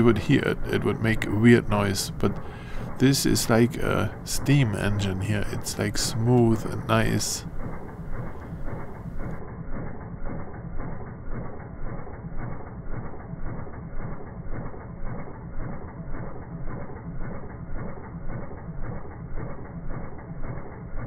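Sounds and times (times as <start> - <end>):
slowed engine deep chuffs: 0.0 - 21.0.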